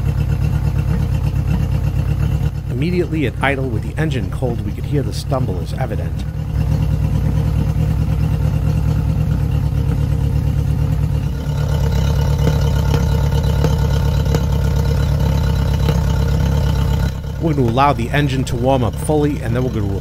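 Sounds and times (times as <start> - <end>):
outboard motor idling with stumble: 0.0 - 20.0.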